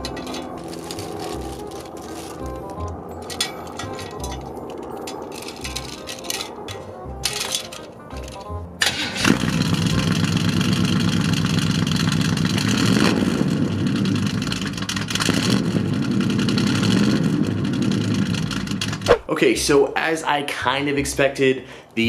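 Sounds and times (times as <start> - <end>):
car engine starting and idling: 0.0 - 19.1.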